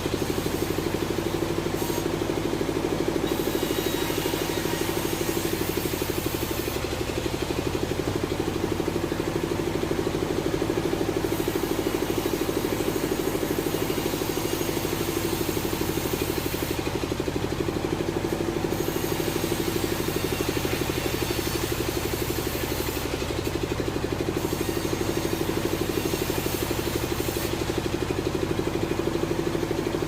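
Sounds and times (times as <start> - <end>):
sawmill engine running: 0.0 - 30.0.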